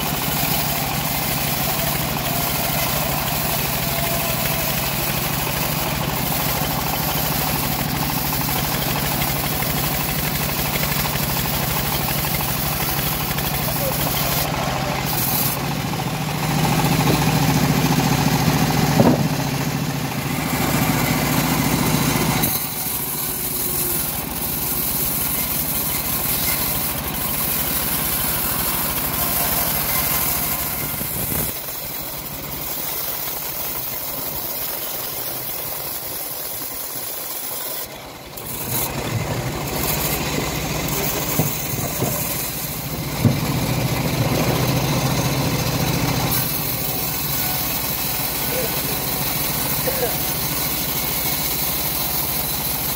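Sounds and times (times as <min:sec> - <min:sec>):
bandsaw sawmill cutting wood: 0:00.0 - 0:52.9.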